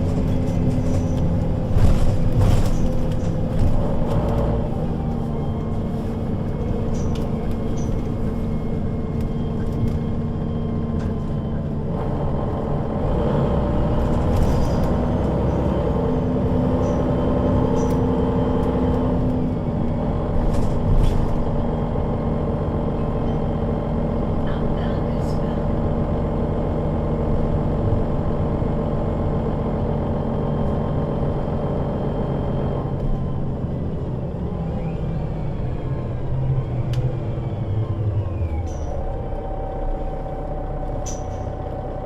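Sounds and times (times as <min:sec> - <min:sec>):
bus engine droning: 0:00.0 - 0:42.0.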